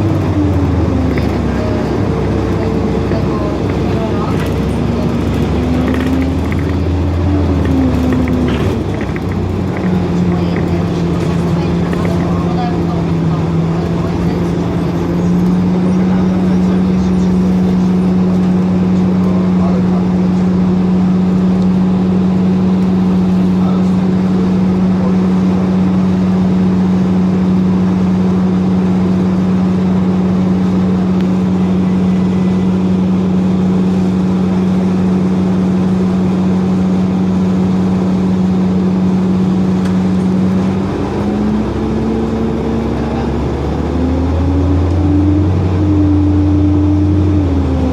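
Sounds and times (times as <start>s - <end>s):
bus drivetrain hum: 0.0s - 47.9s
road noise: 0.0s - 47.9s.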